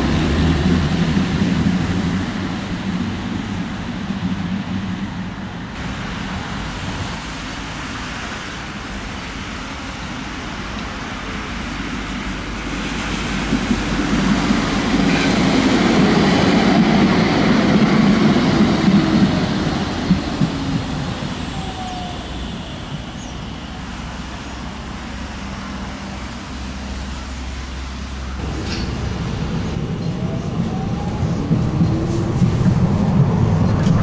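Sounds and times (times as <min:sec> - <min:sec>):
passing vehicle rumble: 0:05.8 - 0:34.0
vehicle approaching: 0:05.8 - 0:34.0.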